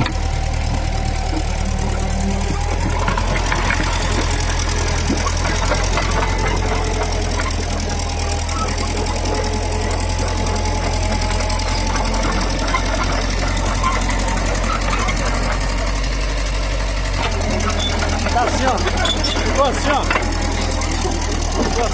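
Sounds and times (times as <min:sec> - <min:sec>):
bulldozer diesel engine running: 0:00.0 - 0:21.9.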